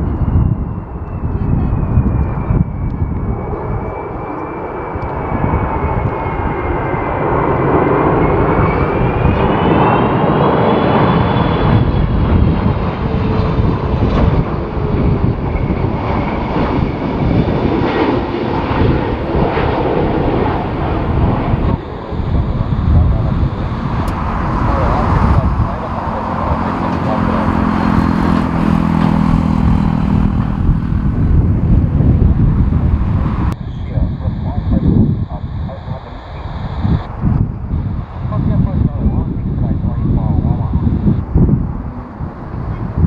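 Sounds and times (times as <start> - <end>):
jet engines rumbling and whining: 0.0 - 43.0.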